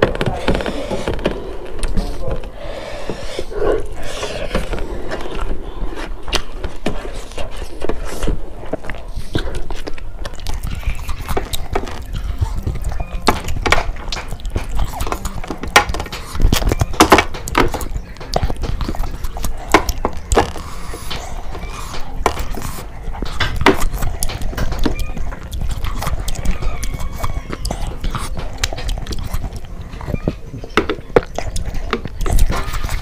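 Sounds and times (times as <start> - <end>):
lip-smacking: 0.0 - 33.0
mouth clicks: 0.0 - 33.0
wet chewing: 0.0 - 33.0.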